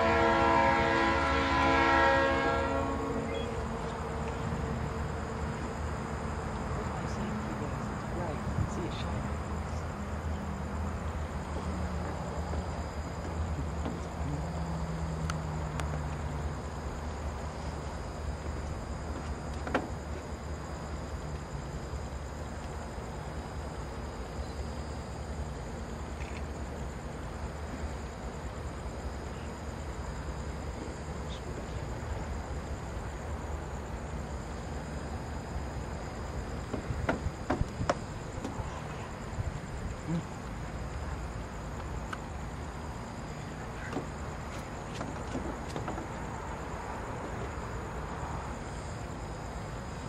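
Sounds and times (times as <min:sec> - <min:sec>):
distant idling diesel locomotive: 0:00.0 - 0:50.0
night insects chirring: 0:00.0 - 0:50.0.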